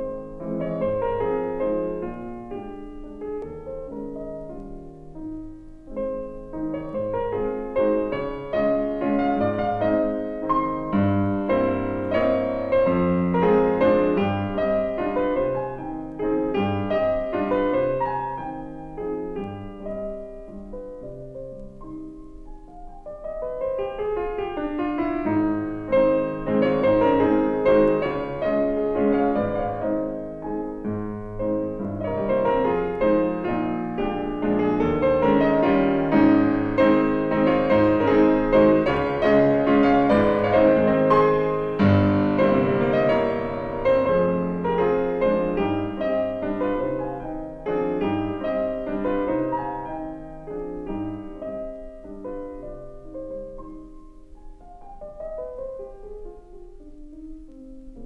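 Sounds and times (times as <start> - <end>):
background piano music: 0.0 - 58.0.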